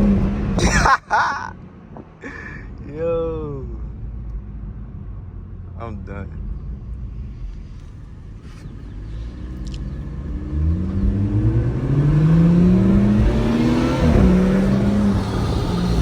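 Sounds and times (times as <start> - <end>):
car engine accelerating hard: 0.0 - 1.5, 4.5 - 16.0.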